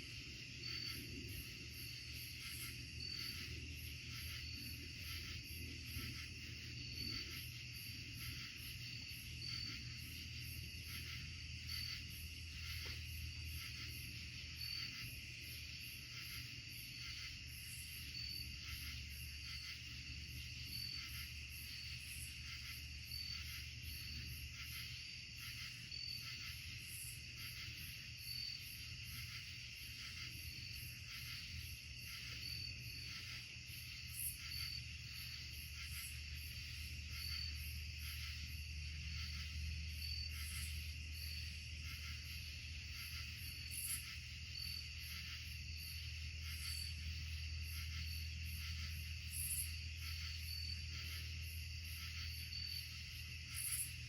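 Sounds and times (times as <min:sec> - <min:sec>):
high insect chirp: 0:00.0 - 0:54.0
insects trilling: 0:00.0 - 0:54.0.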